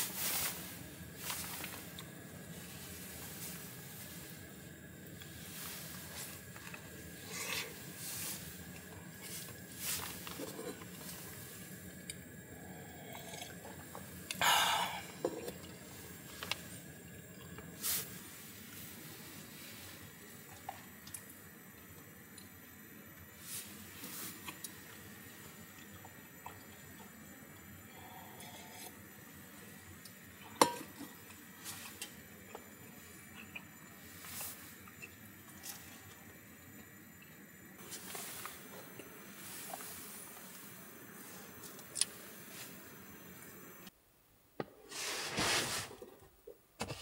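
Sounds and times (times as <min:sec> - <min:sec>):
steady faint hiss: 0:00.0 - 0:47.0.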